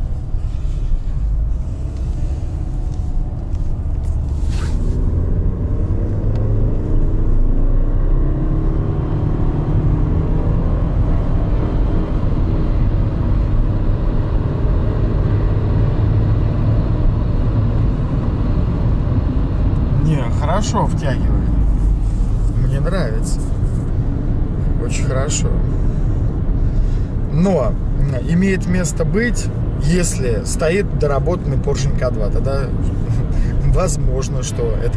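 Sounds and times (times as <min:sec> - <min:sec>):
car engine accelerating: 0:00.0 - 0:34.9
road rumble: 0:00.0 - 0:34.9.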